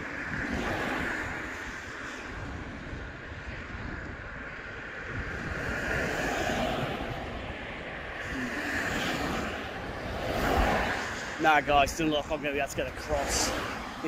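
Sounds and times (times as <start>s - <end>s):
cars passing on road: 0.0s - 14.0s
wind buffeting microphone: 0.0s - 14.0s.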